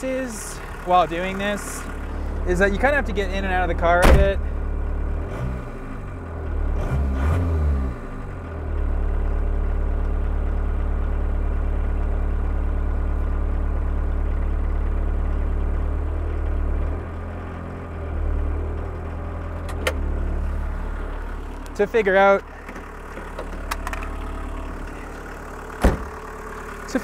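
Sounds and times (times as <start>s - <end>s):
diesel engine idling: 0.0s - 6.8s, 8.0s - 27.0s.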